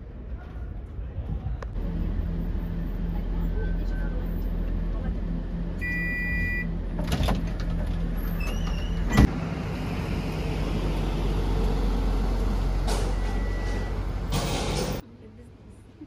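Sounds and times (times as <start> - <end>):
bus engine running: 1.7 - 15.0.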